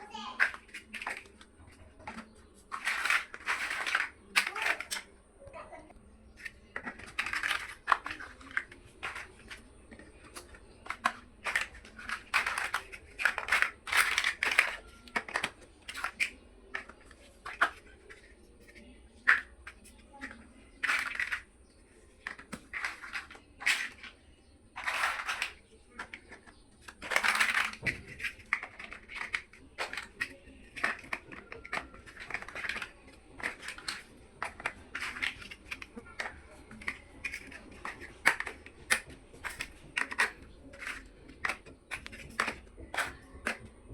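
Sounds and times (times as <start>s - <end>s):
plastic blocks clicking: 0.0s - 43.9s
plastic pieces rustling: 0.1s - 5.2s, 6.2s - 43.9s.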